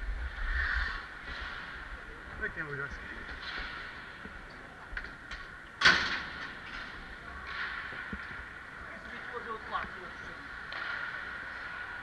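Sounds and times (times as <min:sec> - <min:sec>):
arena background noise: 0:00.0 - 0:12.0.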